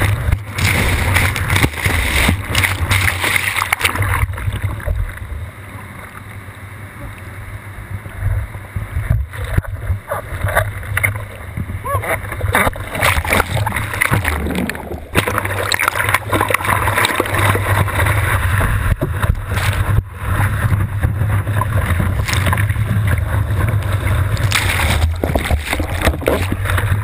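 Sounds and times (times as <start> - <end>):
ocean surf splashing over camera: 0.0 - 6.0, 7.4 - 27.0
underwater rumble and bubbling: 0.0 - 27.0.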